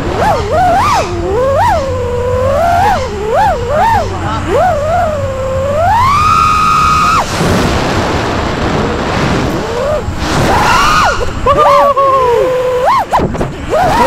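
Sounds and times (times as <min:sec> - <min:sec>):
drone motors whining: 0:00.0 - 0:14.0
wind noise: 0:00.0 - 0:14.0.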